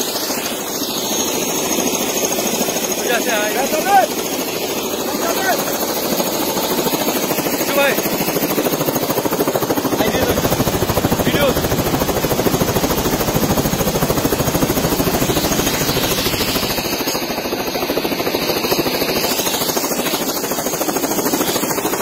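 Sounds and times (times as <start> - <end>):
helicopter rotor blades beating: 0.0 - 22.0.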